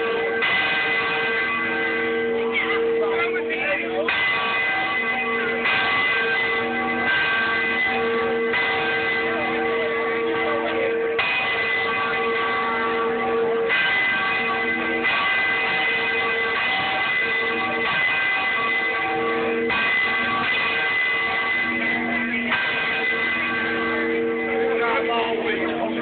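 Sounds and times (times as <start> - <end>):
large bell ringing: 0.0 - 26.0.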